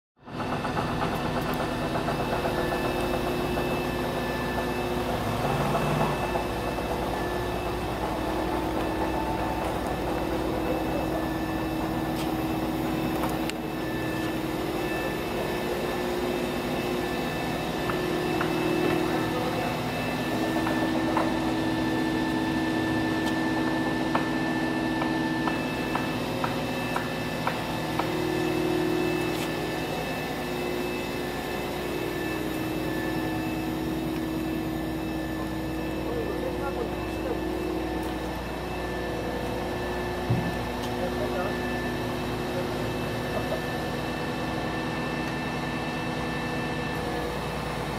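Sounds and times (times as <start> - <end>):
excavator engine and hydraulics: 0.2 - 47.9.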